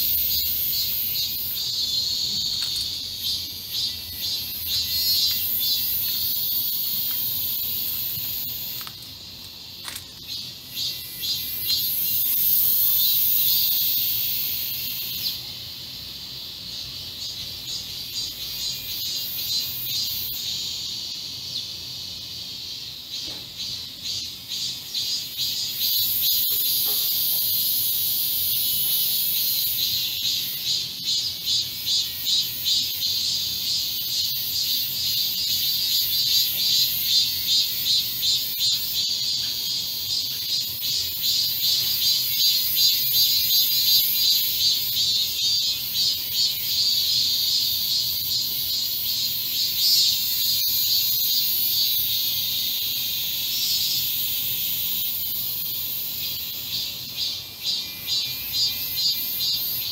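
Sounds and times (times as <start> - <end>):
cicadas shrill buzz: 0.0 - 59.9
pulsing cicada call: 0.0 - 59.9.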